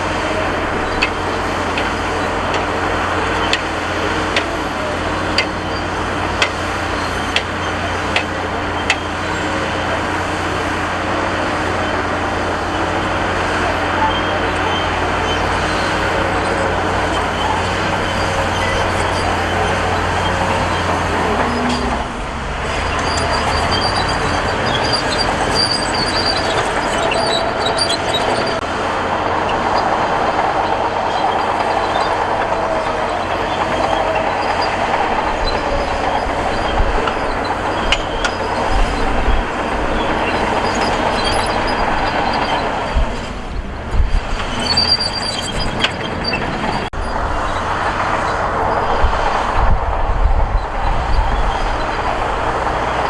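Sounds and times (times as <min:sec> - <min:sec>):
diesel engine under load: 0:00.0 - 0:53.0
metallic track squeals: 0:00.0 - 0:53.0.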